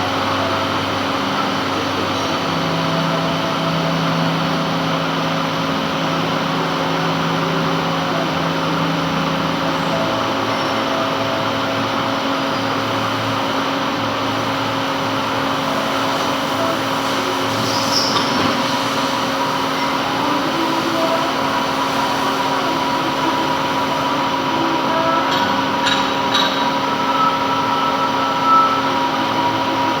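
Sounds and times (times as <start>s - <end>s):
metal lathe running: 0.0s - 30.0s.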